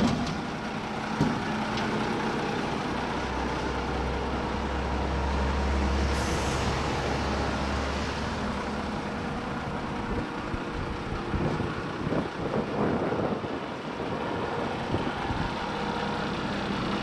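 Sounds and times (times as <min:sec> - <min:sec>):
diesel forklift engine humming: 0:00.0 - 0:17.0.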